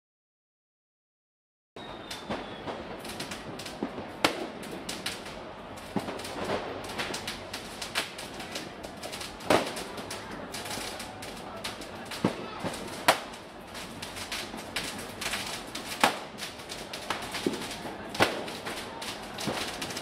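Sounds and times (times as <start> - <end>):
distant fireworks crackling: 1.8 - 20.0
firecracker bangs: 1.8 - 20.0.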